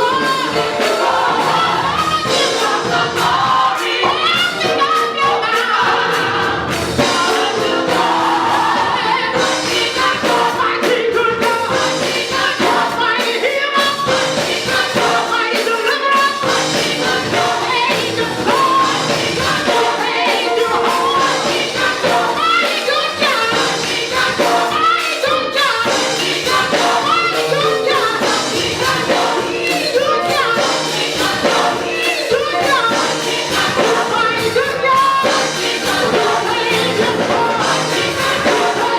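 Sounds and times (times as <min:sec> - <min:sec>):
choir and congregation singing: 0:00.0 - 0:38.9
instrumental accompaniment: 0:00.0 - 0:38.9.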